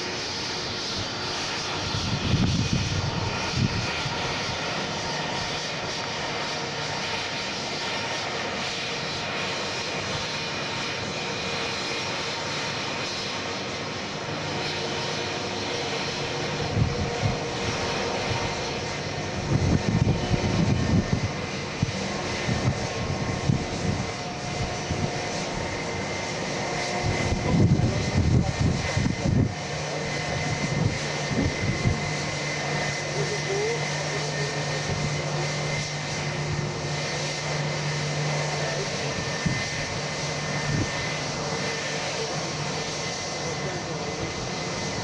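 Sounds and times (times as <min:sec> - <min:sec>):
jet engines hissing and whining: 0:00.0 - 0:45.0.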